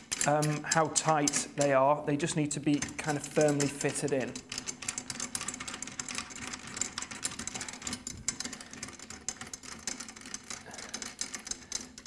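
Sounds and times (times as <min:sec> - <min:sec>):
metallic clicking and rattling: 0:00.0 - 0:12.0.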